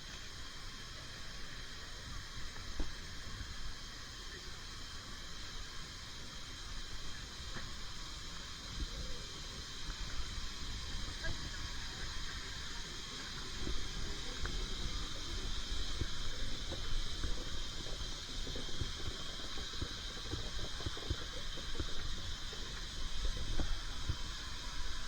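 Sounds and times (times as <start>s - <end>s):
steam train hissing: 0.0s - 25.0s.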